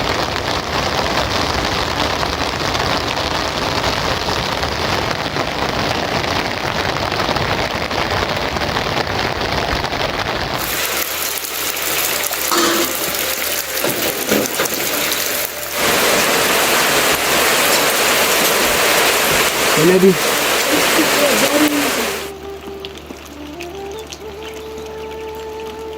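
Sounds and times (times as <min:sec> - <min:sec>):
heavy rain falling: 0:00.0 - 0:25.9.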